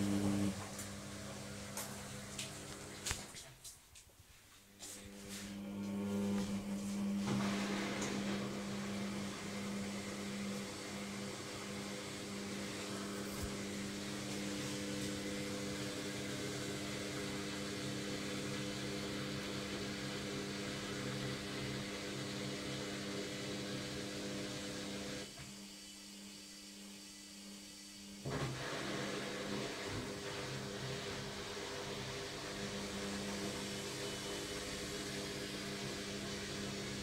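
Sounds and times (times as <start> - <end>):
washing machine spinning: 0.0 - 3.4, 5.1 - 37.0.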